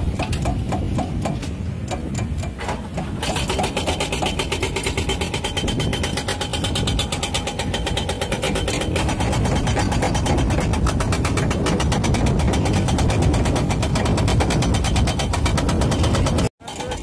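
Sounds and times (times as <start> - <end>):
fast even clatter: 2.6 - 17.0.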